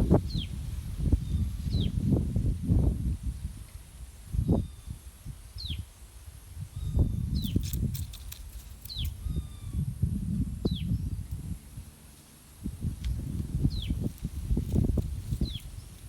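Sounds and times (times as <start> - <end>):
wind buffeting microphone: 0.0 - 12.0, 12.6 - 16.0.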